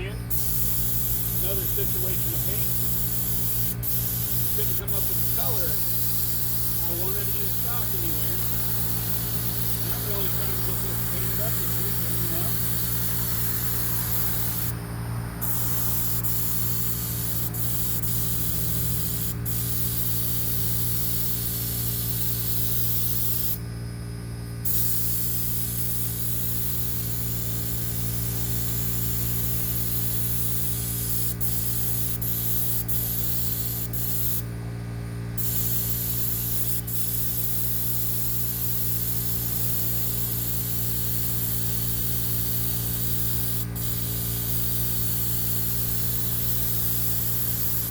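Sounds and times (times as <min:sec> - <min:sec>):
paint spray hissing: 0:00.0 - 0:23.6, 0:24.6 - 0:34.5, 0:35.4 - 0:47.9
motor hum: 0:00.0 - 0:47.9.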